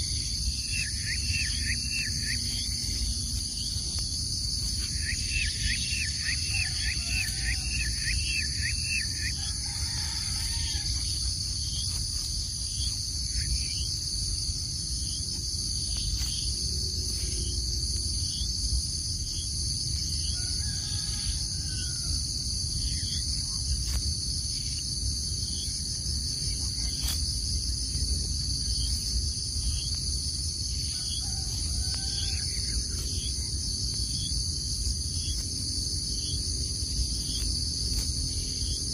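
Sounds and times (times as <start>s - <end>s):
low rumbling background: 0.0s - 20.6s, 21.2s - 38.9s
high-pitched insect chorus: 0.0s - 38.9s.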